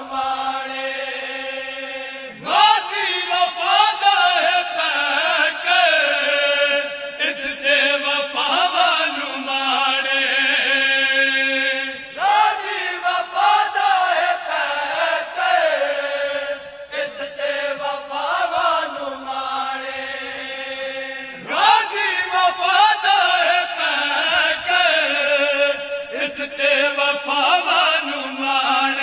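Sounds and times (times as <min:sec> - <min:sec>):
men singing in chorus: 0:00.0 - 0:29.0.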